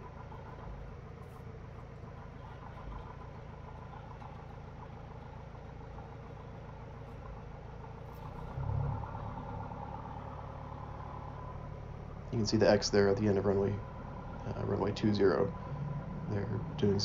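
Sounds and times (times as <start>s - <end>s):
aircraft engine and propeller idling: 0.0s - 17.0s
low rumble: 0.0s - 17.0s.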